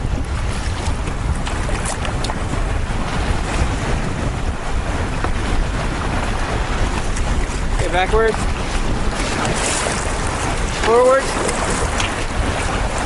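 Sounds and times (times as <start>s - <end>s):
choppy waves slapping canoe: 0.0s - 13.0s
wind buffeting microphone: 0.0s - 13.0s.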